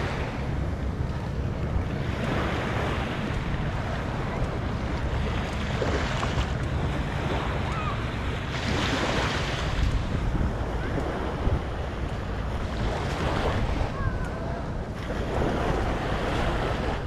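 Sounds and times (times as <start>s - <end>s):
small waves breaking on shore: 0.0s - 17.0s
wind rumbling on microphone: 0.0s - 17.0s.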